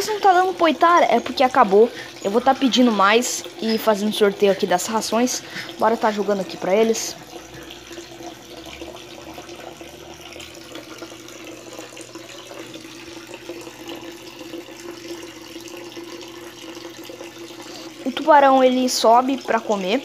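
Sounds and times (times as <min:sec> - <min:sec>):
water running and splashing: 0:00.0 - 0:20.0.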